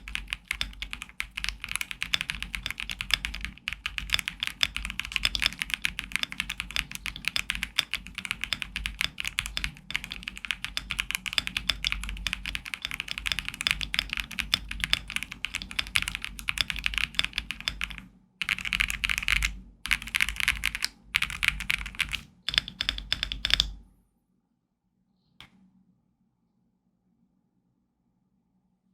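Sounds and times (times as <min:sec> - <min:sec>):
mechanical keyboard typing: 0:00.0 - 0:23.8.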